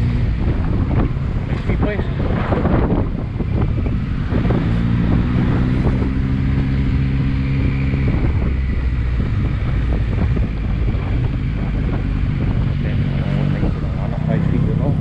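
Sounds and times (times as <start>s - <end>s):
motorcycle engine running steadily: 0.0s - 15.0s
wind rushing on microphone: 0.0s - 15.0s.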